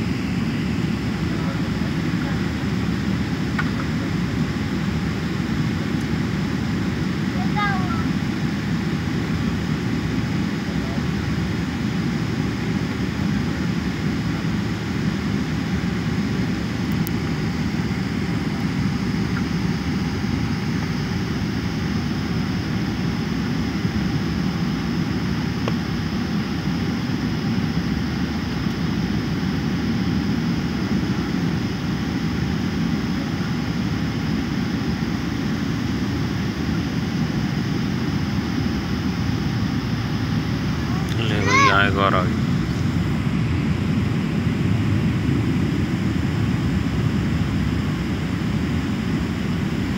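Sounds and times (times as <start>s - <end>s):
airliner cabin engine rush: 0.0s - 49.9s.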